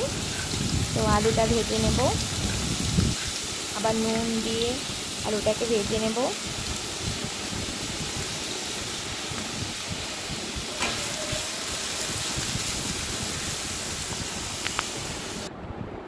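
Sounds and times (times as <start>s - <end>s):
potato strips sizzling in hot oil: 0.0s - 15.5s.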